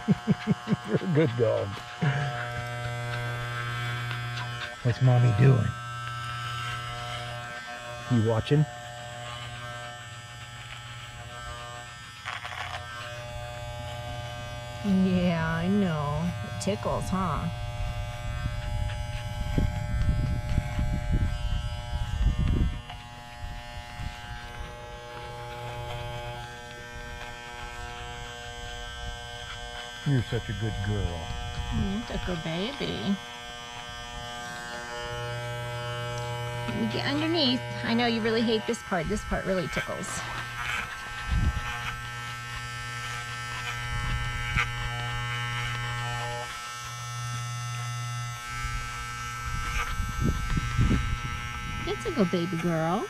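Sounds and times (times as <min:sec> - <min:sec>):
electric clipper buzzing: 0:00.0 - 0:53.0.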